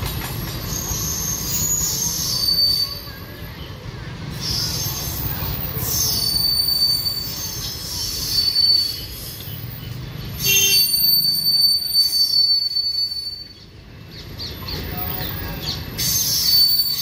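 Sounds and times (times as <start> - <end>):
train coaches rumbling past: 0.0 - 17.0
train wheels squealing: 0.0 - 17.0.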